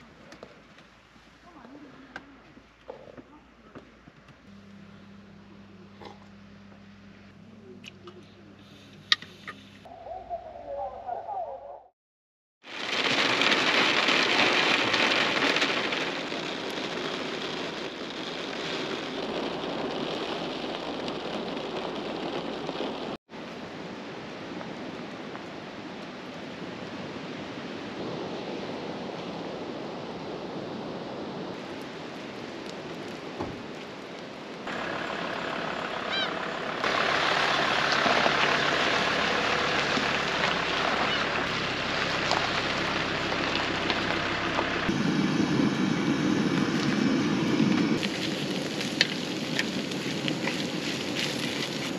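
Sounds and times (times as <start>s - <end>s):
steady rain: 0.0s - 2.9s, 12.6s - 51.9s.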